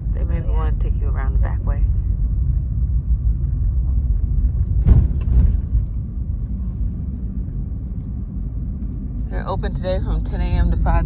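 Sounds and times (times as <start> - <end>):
road rumble inside car: 0.0 - 11.0.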